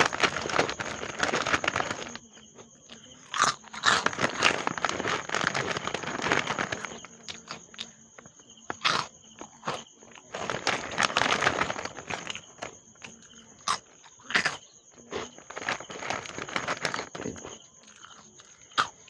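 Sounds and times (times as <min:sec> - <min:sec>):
chewing seafood: 0:00.0 - 0:19.0
sharp crunches and clicks: 0:00.0 - 0:19.0.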